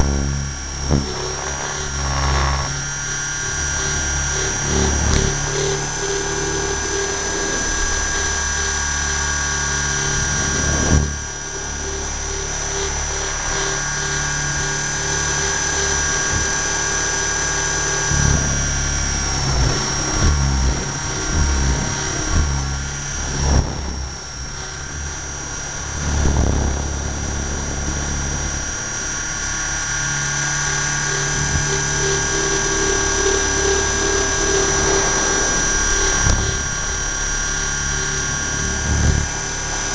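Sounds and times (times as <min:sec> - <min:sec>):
helicopter rotor throbbing: 0:00.0 - 0:39.9
motor and gears whining: 0:00.0 - 0:39.9.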